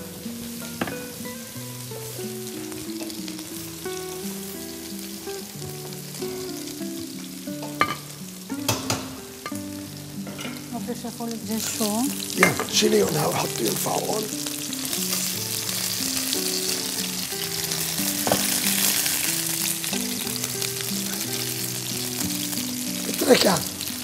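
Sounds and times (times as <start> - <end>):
food sizzling in a pot: 0.0 - 24.0.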